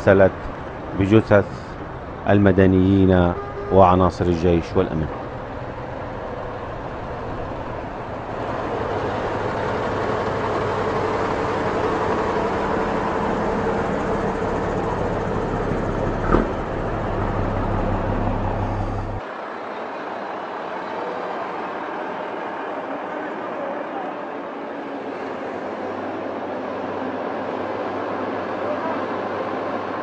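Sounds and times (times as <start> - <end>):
convoy of trucks driving past: 0.0 - 30.0.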